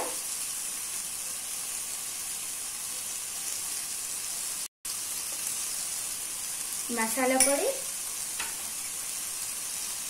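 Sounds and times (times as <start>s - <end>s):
masala frying in oil: 0.0s - 10.0s.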